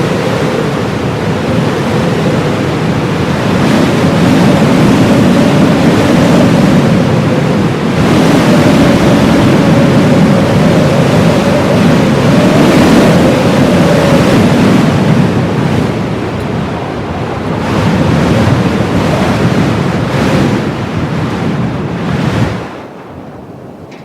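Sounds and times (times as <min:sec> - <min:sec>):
blizzard wind gusting: 0:00.0 - 0:24.0
faint wind howling: 0:00.0 - 0:24.0.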